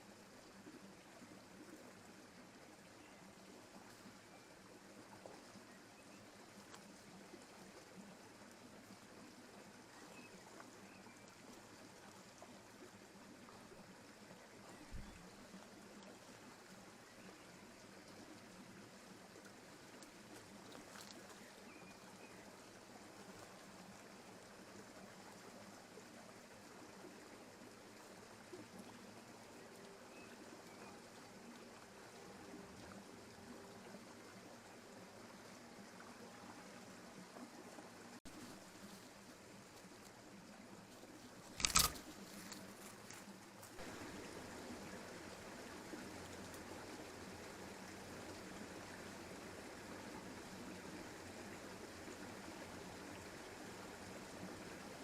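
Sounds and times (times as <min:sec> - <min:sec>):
faint forest stream rushing: 0:00.0 - 0:55.0.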